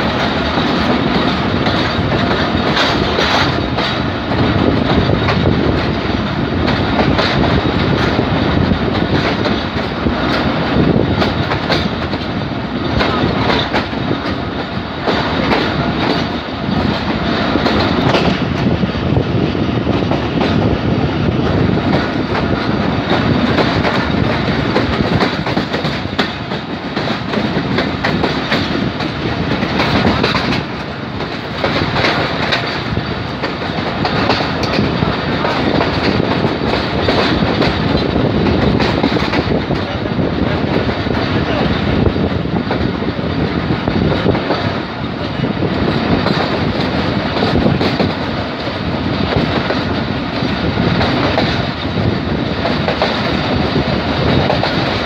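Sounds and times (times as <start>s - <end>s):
train rumble: 0.0s - 55.0s
train wheels clickety-clack: 0.0s - 55.0s.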